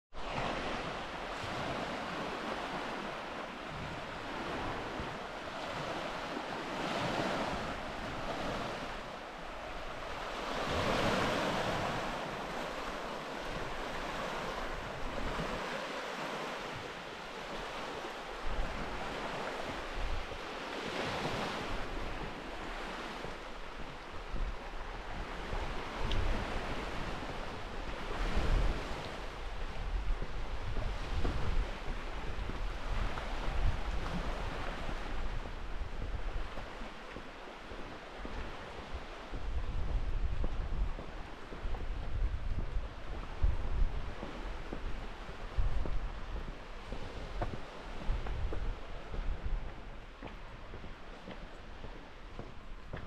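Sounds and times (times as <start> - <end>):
wind buffeting microphone: 0.1 - 53.0.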